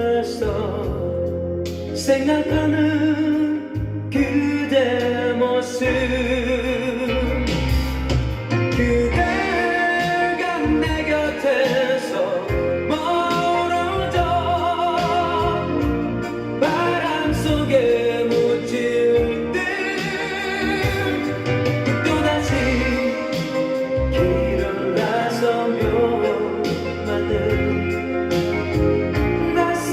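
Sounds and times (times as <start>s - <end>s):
band with bass and drums: 0.0s - 29.9s
pop ballad singing with vibrato: 0.0s - 29.9s.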